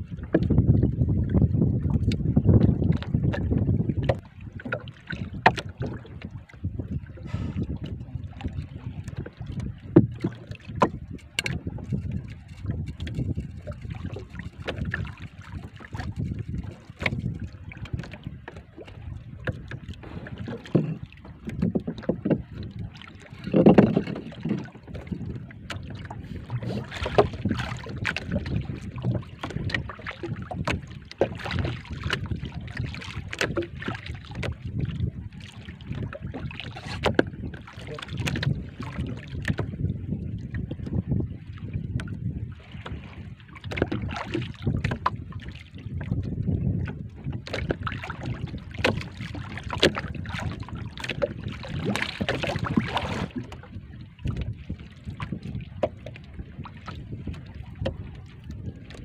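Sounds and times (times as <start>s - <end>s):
knocks and rubbing from boat: 0.0s - 59.0s
water sloshing around boat: 0.0s - 59.0s
wind rumbling on microphone: 0.0s - 59.0s.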